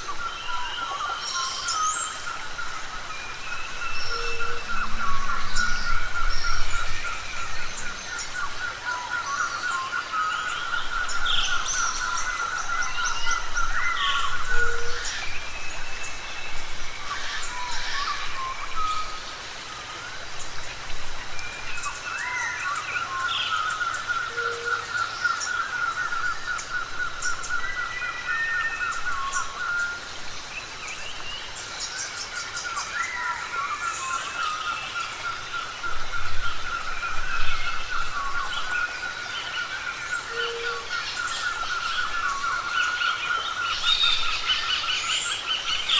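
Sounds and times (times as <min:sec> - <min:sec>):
birds whistling and chirping: 0:00.0 - 0:19.3, 0:20.1 - 0:30.1, 0:30.8 - 0:45.9.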